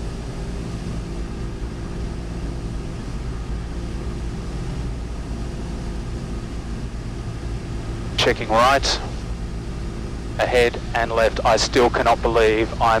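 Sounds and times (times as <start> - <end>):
airplane engine and propeller: 0.0 - 13.0.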